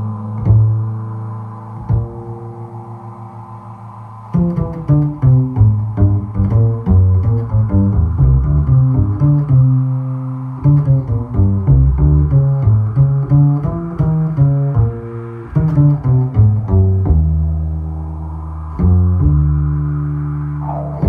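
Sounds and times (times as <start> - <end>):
bass guitar plucked notes: 0.0 - 21.0.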